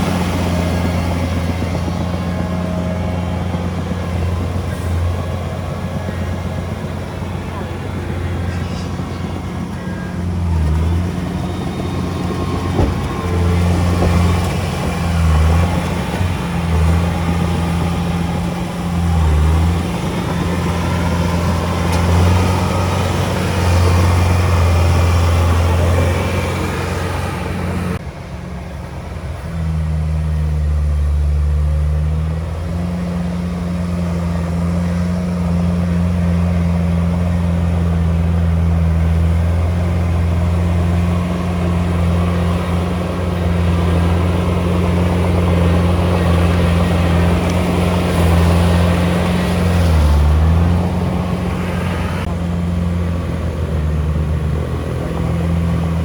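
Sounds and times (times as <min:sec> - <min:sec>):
heavy diesel engine: 0:00.0 - 0:56.0.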